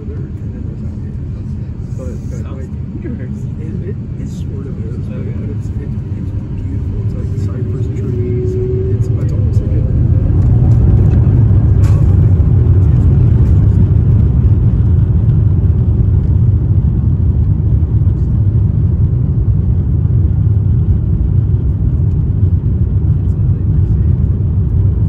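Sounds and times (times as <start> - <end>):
airliner takeoff rumble in cabin: 0.0 - 25.0.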